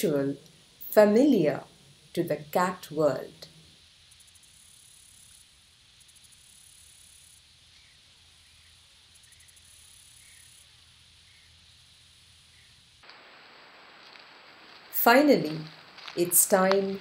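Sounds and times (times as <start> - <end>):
faint recording hiss and hum: 0.0 - 17.0.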